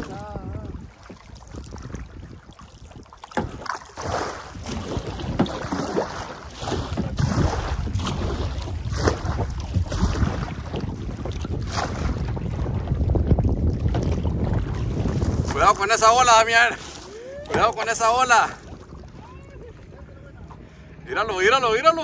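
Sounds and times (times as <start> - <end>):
water splashing around canoe: 0.0 - 21.0
wind rumbling on microphone: 0.0 - 22.0.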